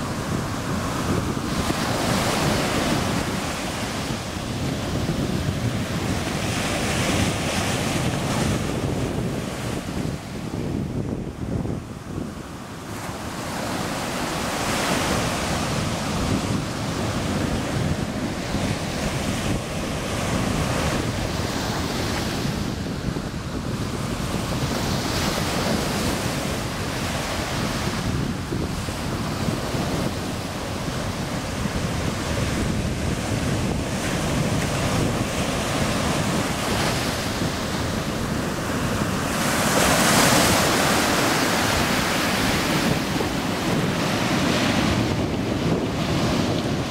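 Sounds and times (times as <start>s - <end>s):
ocean surf breaking on beach: 0.0s - 46.9s
wind buffeting microphone: 0.0s - 46.9s.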